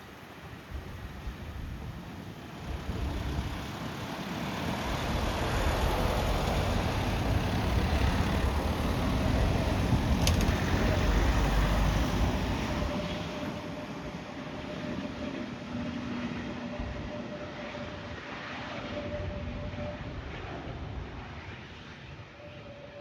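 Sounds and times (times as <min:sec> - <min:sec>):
jet engines rumbling overhead: 0:00.0 - 0:23.0.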